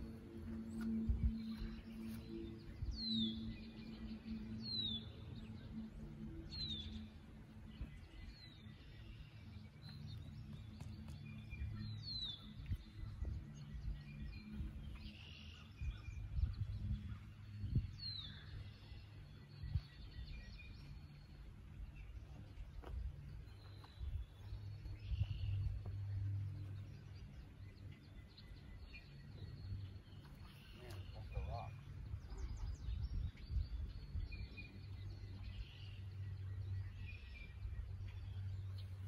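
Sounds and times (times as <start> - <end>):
bird chirping: 0.0 - 39.0
low rumble: 0.0 - 39.0.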